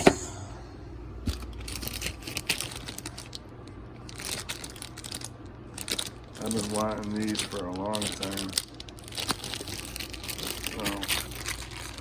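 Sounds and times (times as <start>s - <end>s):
packaging crinkling and rustling: 1.3s - 12.0s.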